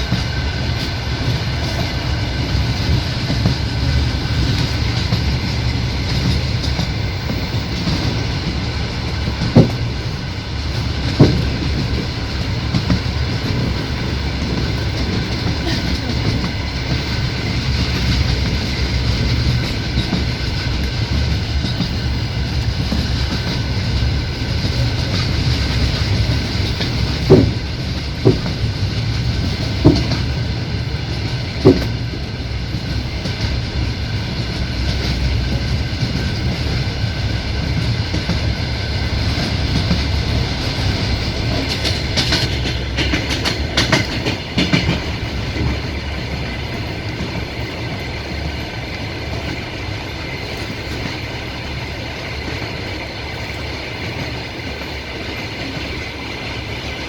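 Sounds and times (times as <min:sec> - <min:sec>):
train wheels rumbling on rails: 0:00.0 - 0:57.0
wheels clacking on rail joints: 0:00.0 - 0:57.0.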